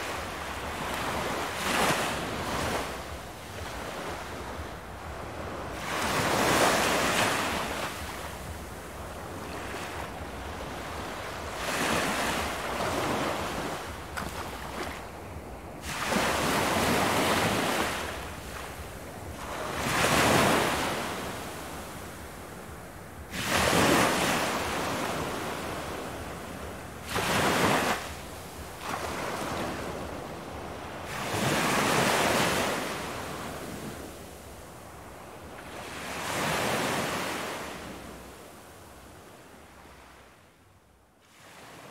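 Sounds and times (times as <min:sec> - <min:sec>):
ocean waves breaking: 0:00.0 - 0:40.3
wind: 0:00.0 - 0:41.9.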